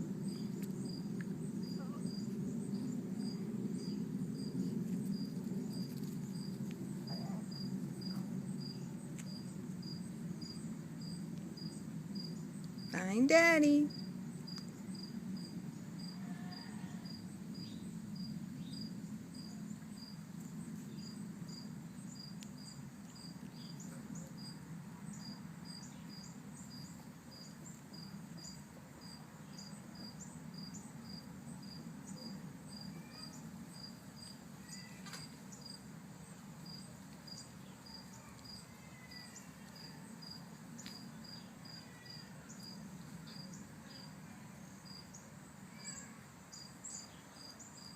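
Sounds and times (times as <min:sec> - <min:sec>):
cricket chirping: 0:00.0 - 0:47.9.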